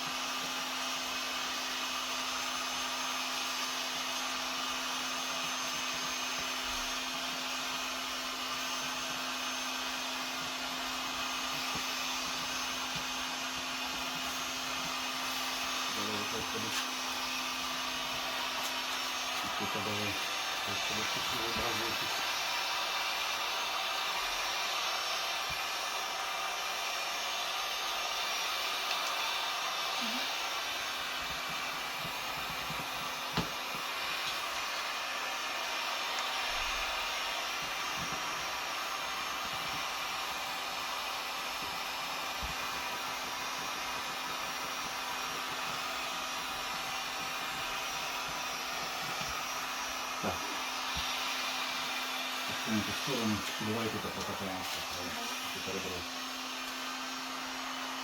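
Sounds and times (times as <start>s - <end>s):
heat gun blowing: 0.0s - 58.0s.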